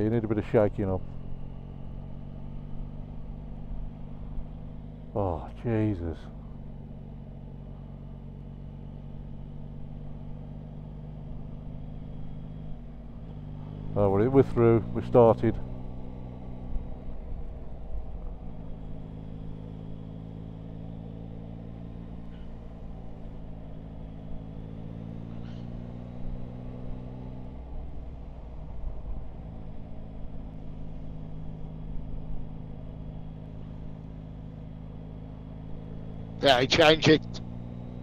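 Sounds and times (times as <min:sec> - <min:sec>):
motorcycle engine running: 0:00.0 - 0:38.0
road rumble: 0:00.0 - 0:38.0.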